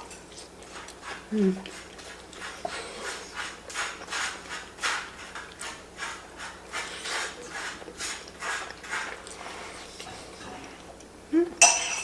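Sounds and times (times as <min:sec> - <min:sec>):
person chewing: 0:00.0 - 0:11.1.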